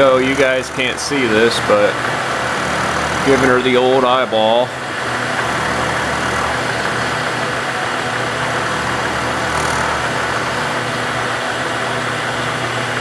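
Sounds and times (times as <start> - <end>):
cutter milling wood: 0.0 - 13.0
milling machine whir: 0.0 - 13.0.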